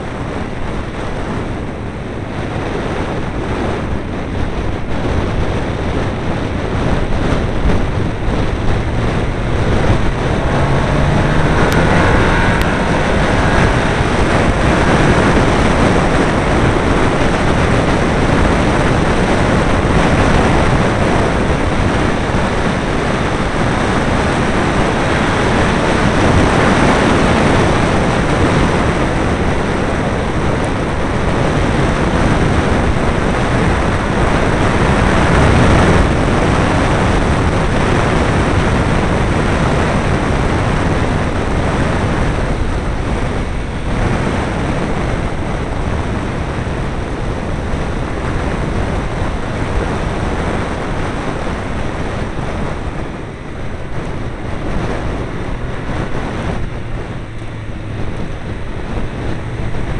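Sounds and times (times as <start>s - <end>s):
car engine: 0.0s - 59.9s
wind rushing over microphone: 0.0s - 59.9s.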